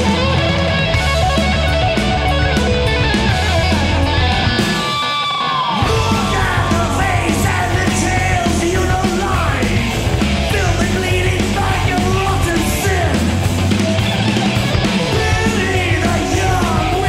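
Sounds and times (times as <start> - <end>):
heavy metal band: 0.0 - 17.0.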